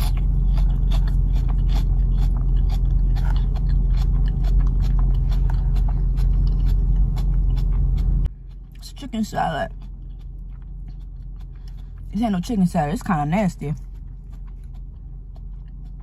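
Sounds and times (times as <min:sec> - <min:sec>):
chewing crisp lettuce: 0:00.0 - 0:16.0
steady low hum: 0:00.0 - 0:16.0.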